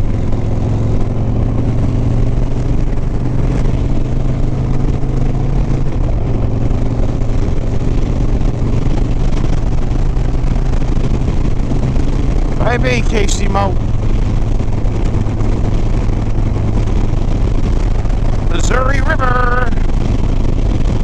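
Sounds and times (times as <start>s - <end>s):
motorcycle engine cruising: 0.0s - 21.0s
wind noise: 0.0s - 21.0s.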